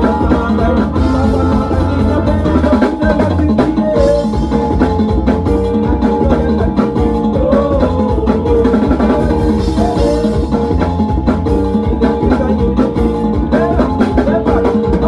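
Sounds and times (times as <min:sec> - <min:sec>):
drum kit beat: 0:00.0 - 0:15.0
sustained pitched instruments: 0:00.0 - 0:15.0.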